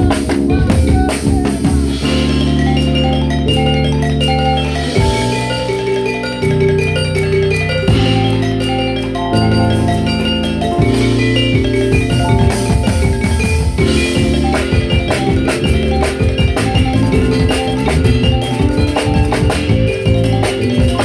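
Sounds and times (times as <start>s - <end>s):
bass line: 0.0s - 21.0s
drums: 0.0s - 21.0s
metallophones ringing: 0.0s - 21.0s.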